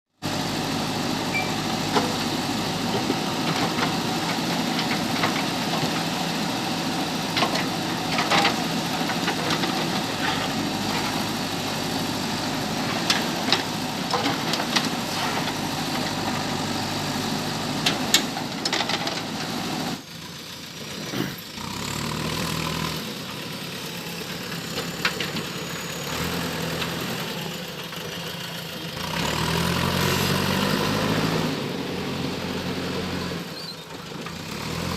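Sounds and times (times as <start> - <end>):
diesel engine under load: 0.2 - 34.9.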